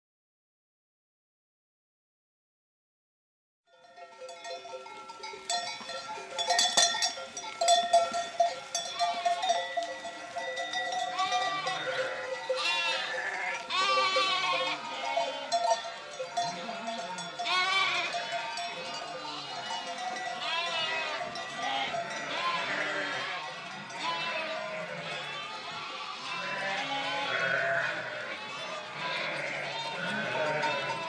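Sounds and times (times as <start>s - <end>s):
livestock bells clanking: 3.7s - 31.0s
animals bleating: 4.4s - 31.0s.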